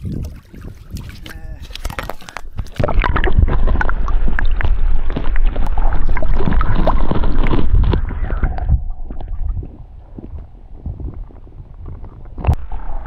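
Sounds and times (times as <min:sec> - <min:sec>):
muffled underwater river rumble: 0:00.0 - 0:13.0
underwater clicks and gurgles: 0:00.0 - 0:13.0.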